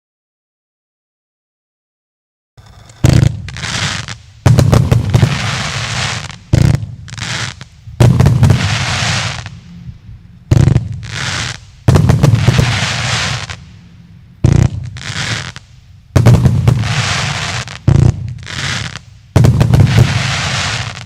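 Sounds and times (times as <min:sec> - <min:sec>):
firework launch bangs: 0:02.6 - 0:09.6, 0:10.5 - 0:13.8, 0:14.4 - 0:21.0
firework burst hiss: 0:02.6 - 0:09.7, 0:10.5 - 0:21.0.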